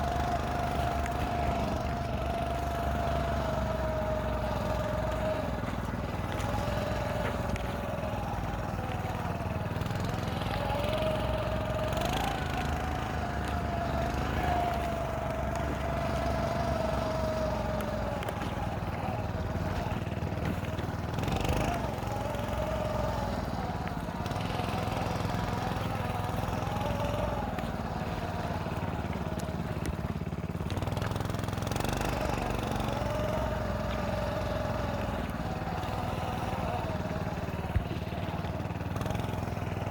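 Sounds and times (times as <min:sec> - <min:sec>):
snow scooter engine whine: 0:00.0 - 0:39.9.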